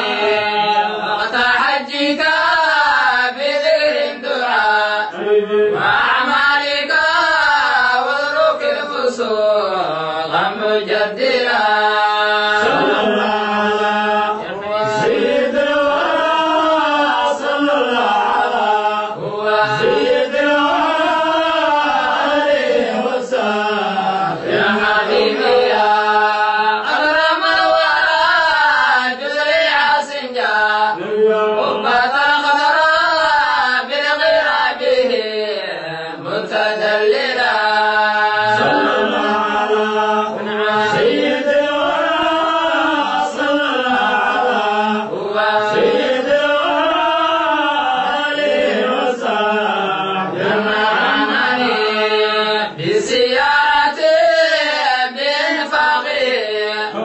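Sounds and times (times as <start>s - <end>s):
men chanting devotional poem: 0.0s - 57.0s.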